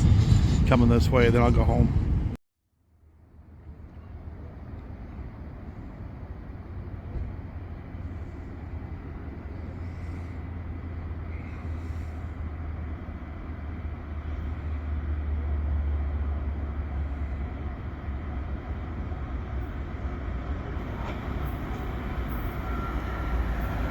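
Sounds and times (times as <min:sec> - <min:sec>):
freight train rumbling: 0:00.0 - 0:02.4, 0:03.4 - 0:23.9.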